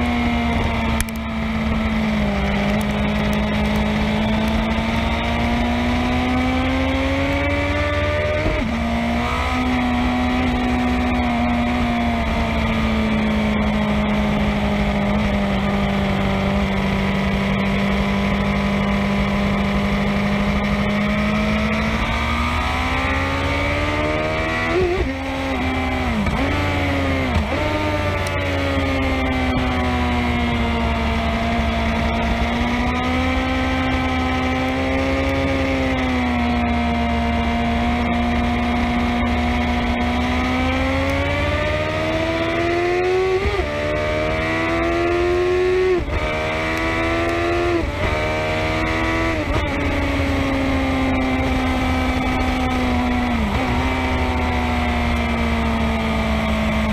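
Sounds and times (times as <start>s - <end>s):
motorcycle engine revving high: 0.0s - 56.9s.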